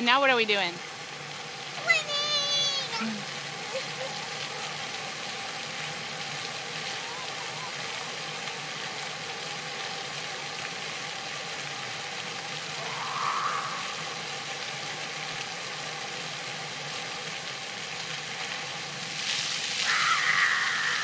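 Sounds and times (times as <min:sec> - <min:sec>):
fountain jets spraying water: 0:00.0 - 0:21.0.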